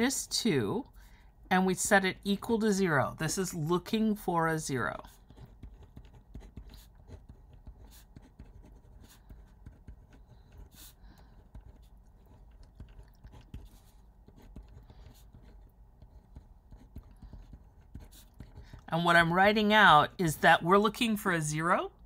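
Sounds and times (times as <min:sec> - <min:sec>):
low room hum: 0:00.0 - 0:22.0
pen scratching on paper: 0:01.8 - 0:21.4.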